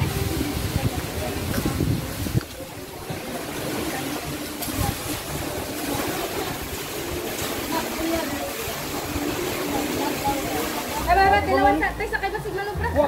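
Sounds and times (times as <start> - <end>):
distant voices: 0.0 - 13.0
water splashing: 0.0 - 13.0.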